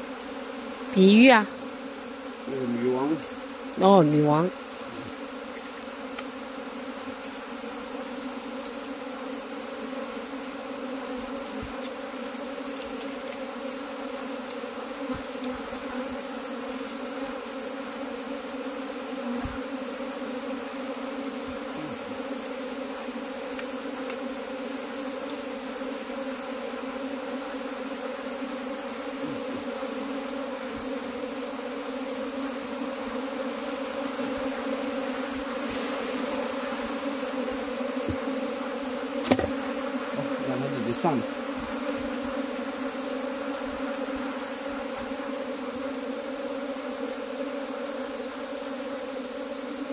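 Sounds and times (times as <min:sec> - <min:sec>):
bee swarm buzzing: 0:00.0 - 0:49.9.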